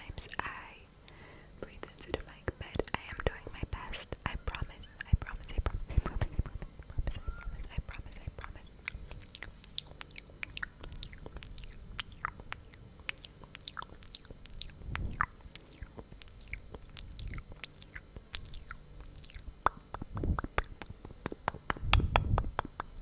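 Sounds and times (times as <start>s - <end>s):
wet lip smacking: 4.1s - 23.0s.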